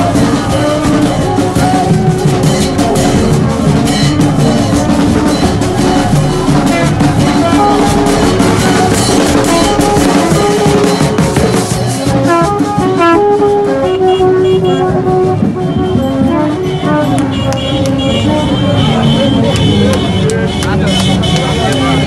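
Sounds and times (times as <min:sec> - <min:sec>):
hand drum beating: 0:00.0 - 0:18.2
held horn notes: 0:00.0 - 0:22.0.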